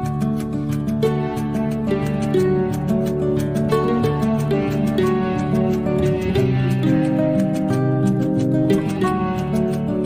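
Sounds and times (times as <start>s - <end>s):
soft background music with held chords: 0.0s - 10.0s.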